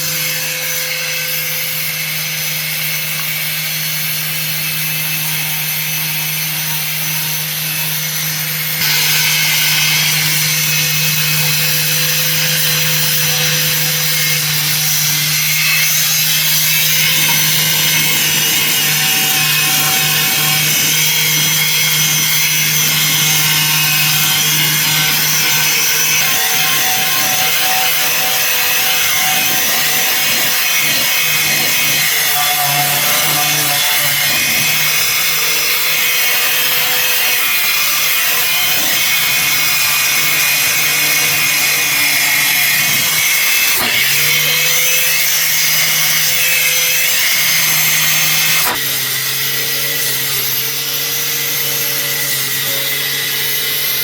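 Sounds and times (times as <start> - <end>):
power tool running under load: 0.0 - 54.0.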